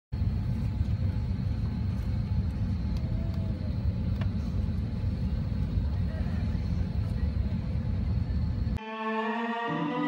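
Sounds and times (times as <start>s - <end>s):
airliner cabin rumble: 0.2s - 8.8s.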